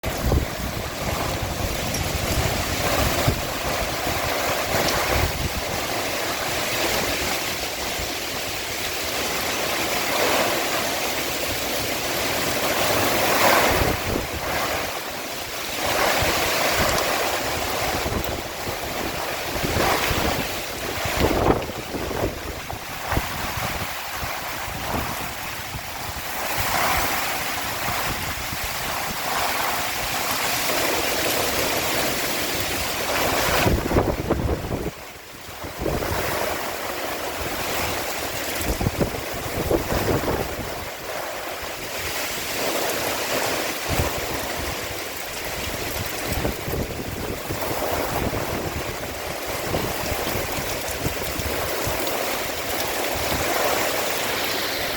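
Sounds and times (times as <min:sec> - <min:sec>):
storm wind gusting: 0:00.0 - 0:54.9
wind buffeting microphone: 0:00.0 - 0:54.9.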